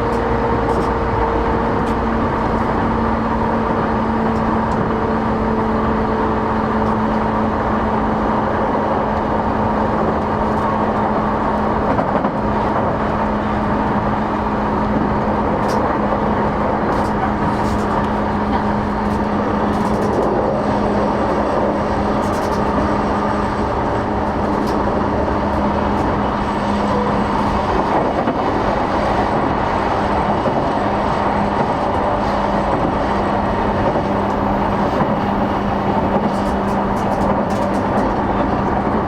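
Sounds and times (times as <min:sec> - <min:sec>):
constant train hum: 0:00.0 - 0:39.0
train wheels rumbling on rail: 0:00.0 - 0:39.0.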